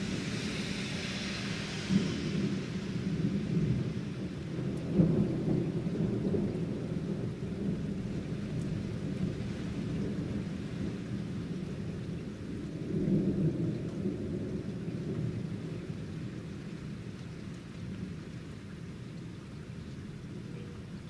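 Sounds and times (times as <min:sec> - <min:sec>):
thunder rumbling: 0:00.0 - 0:17.1
steady rain: 0:00.0 - 0:21.0.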